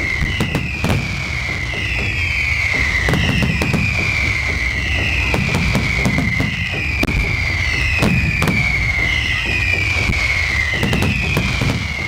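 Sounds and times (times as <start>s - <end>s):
descending firework whistles: 0.0s - 12.0s
fireworks bangs: 0.0s - 12.0s.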